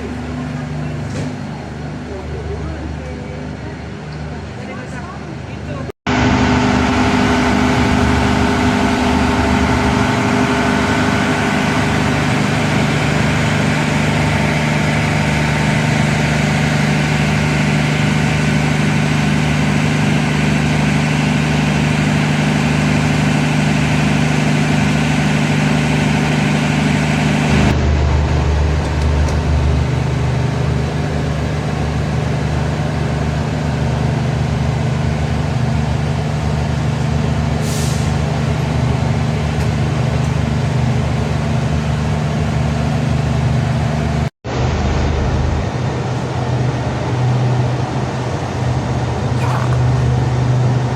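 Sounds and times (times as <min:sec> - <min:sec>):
large engine humming: 0:00.0 - 0:50.9.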